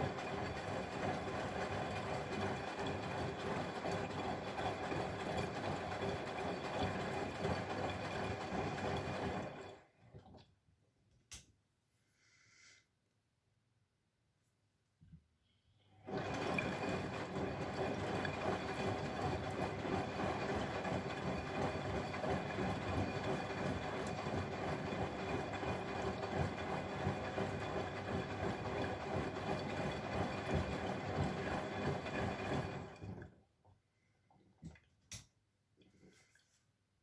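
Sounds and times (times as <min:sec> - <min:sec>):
water running in washing machine: 0:00.0 - 0:10.6, 0:15.9 - 0:35.2.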